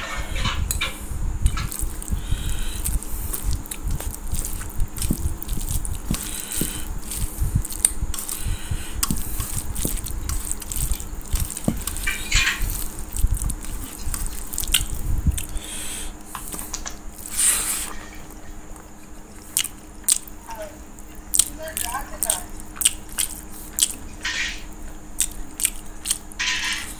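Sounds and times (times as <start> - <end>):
mouth sounds of eating: 0.7 - 26.9
fingers squishing rice and curry: 1.5 - 15.6, 16.2 - 24.1, 25.2 - 26.9.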